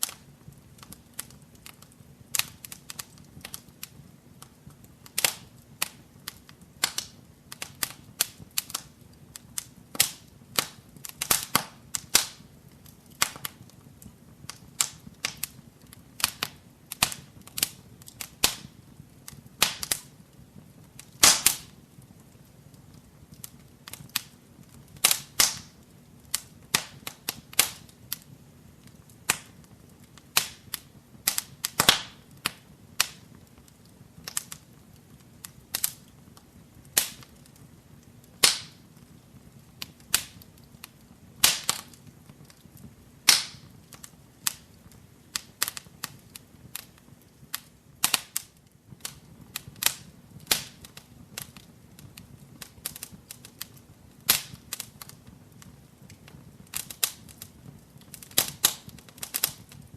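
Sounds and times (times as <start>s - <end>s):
low hiss of flames: 0.0s - 59.9s
wood fire crackling: 0.0s - 59.9s.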